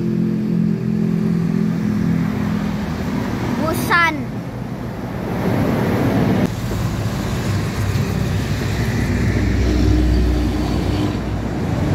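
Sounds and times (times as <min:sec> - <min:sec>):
city bus diesel engine: 0:00.0 - 0:11.9
coach engine and tyres rumbling: 0:00.0 - 0:11.9.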